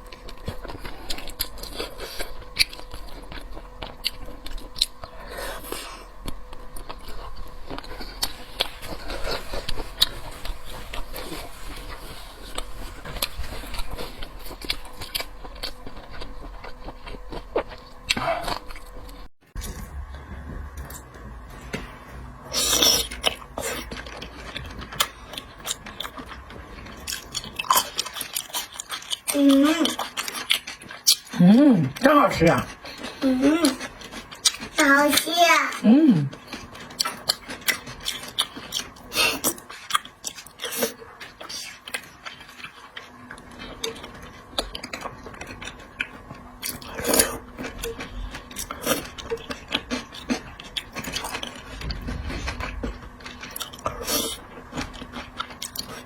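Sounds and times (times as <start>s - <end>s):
wet chewing and crunching: 0.0s - 56.0s.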